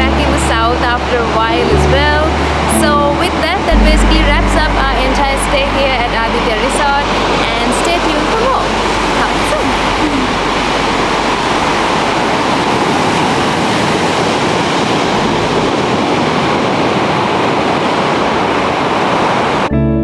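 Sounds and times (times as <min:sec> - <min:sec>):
waves breaking on beach: 0:00.0 - 0:04.4, 0:05.0 - 0:19.7.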